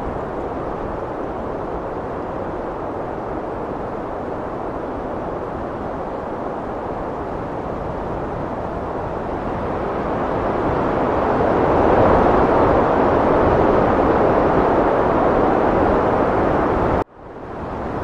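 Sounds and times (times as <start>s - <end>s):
heavy wind blowing: 0.0s - 18.0s.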